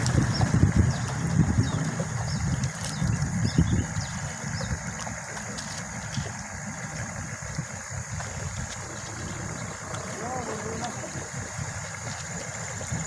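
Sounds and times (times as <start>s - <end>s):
boat motor rumbling: 0.0s - 13.0s
water noise: 0.0s - 13.0s
wind noise: 0.0s - 13.0s.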